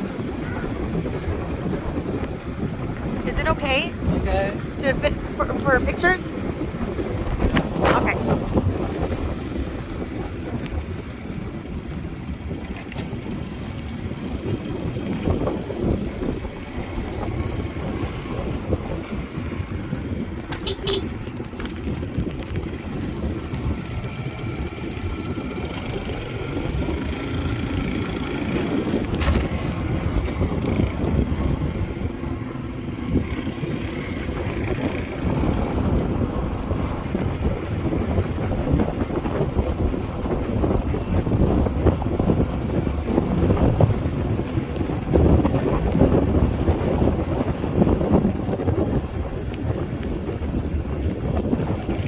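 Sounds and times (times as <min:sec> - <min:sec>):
wind rumbling on microphone: 0:00.0 - 0:52.0.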